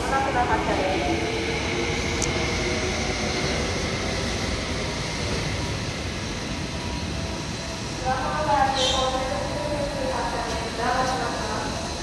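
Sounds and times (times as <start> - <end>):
faint high whine: 0.0 - 12.0
train wheels rumbling: 0.0 - 12.0.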